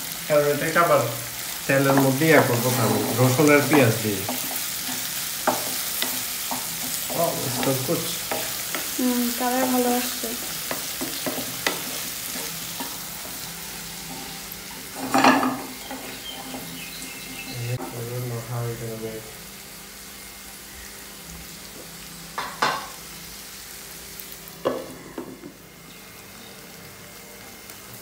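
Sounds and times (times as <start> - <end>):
onion and garlic sizzling in oil: 0.0 - 28.0.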